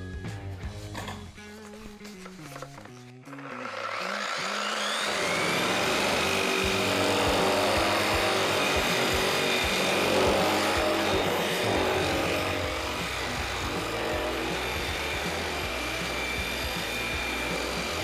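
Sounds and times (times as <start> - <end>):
angle grinder whining: 2.6 - 18.0.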